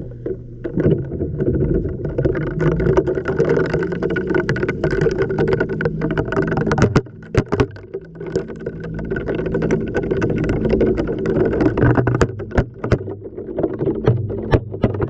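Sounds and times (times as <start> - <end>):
low motor hum: 0.0 - 15.0
water sloshing: 0.0 - 15.0.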